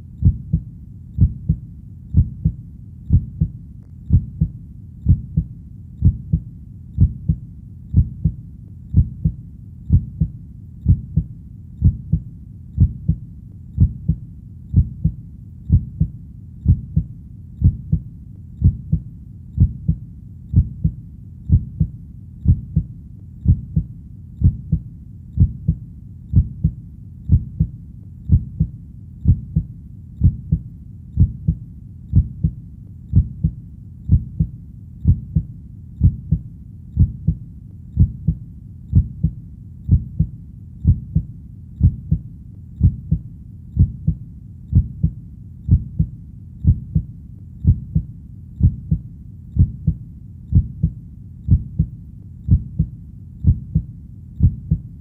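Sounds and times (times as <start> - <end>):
heartbeat: 0.0 - 55.0.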